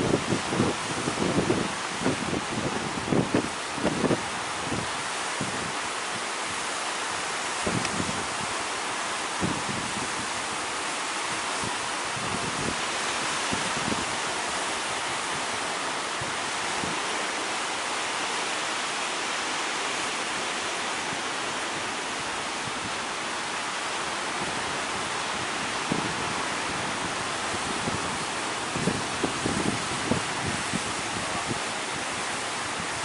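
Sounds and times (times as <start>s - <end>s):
wind buffeting microphone: 0.0s - 6.6s, 7.2s - 17.2s, 21.0s - 33.0s.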